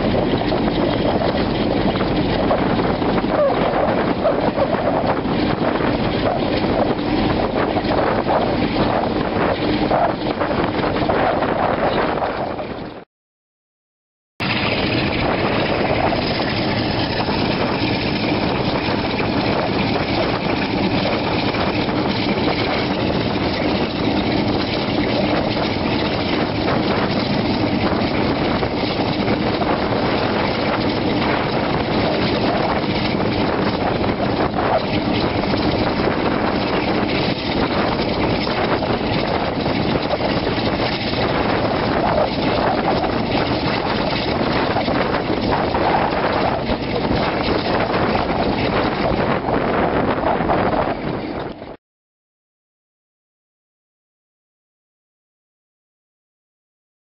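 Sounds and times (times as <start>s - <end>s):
diesel locomotive engine: 0.0s - 13.0s, 14.4s - 51.8s.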